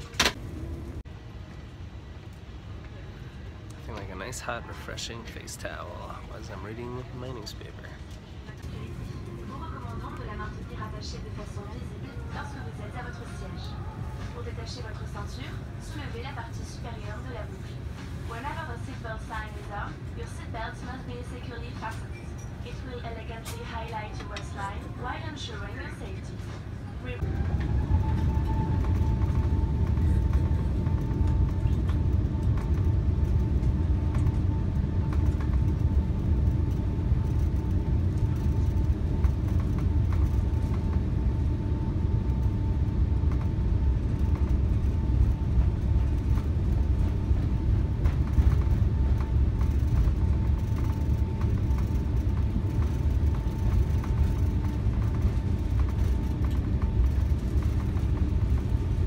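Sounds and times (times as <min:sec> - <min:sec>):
faint engine whine: 0:00.0 - 0:59.0
jet engines rumbling in cabin: 0:00.0 - 0:59.0.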